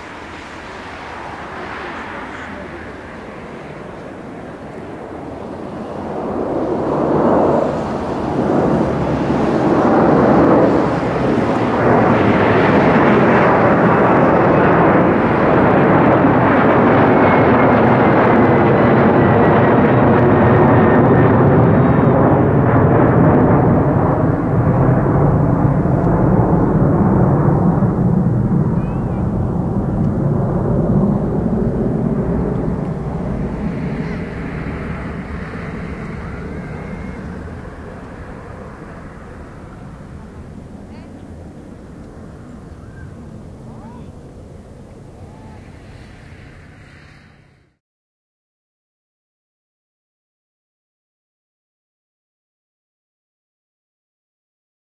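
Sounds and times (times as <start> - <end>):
jet engines at takeoff: 0.0 - 47.8.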